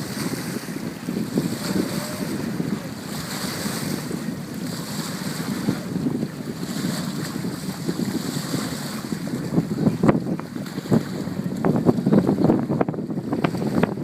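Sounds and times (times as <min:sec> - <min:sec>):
water rushing and splashing: 0:00.0 - 0:14.0
wind buffeting microphone: 0:00.0 - 0:14.0.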